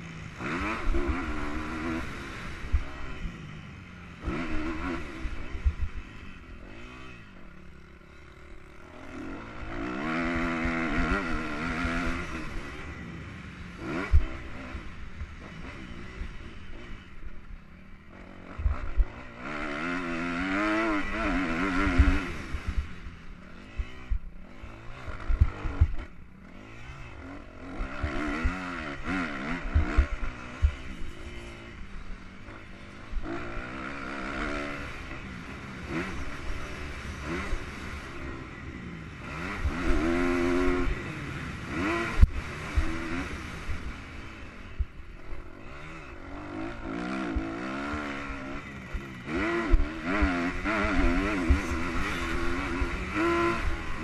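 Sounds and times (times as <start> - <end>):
motocross engine revving: 0.0 - 3.4, 4.0 - 54.0.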